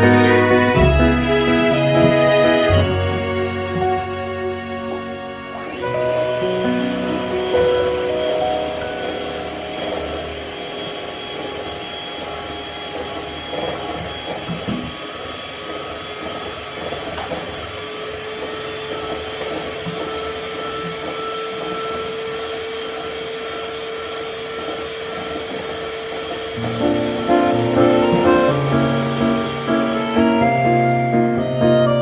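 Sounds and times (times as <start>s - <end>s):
electric hand mixer whirring: 0.0s - 32.0s.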